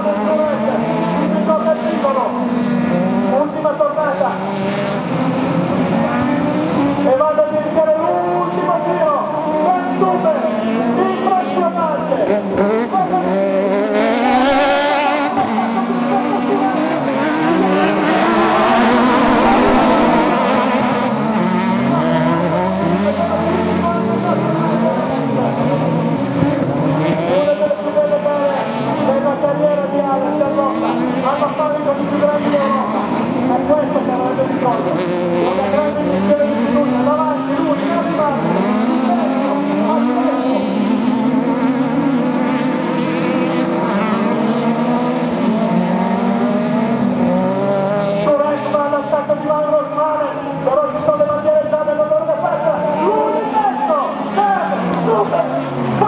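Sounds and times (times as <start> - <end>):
buggy engines racing: 0.0 - 56.0.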